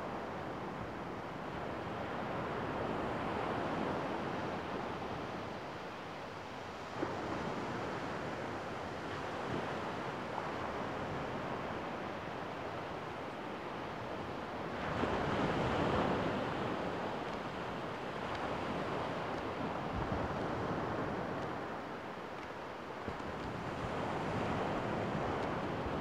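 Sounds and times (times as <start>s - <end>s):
surf washing on sandy shore: 0.1s - 26.0s.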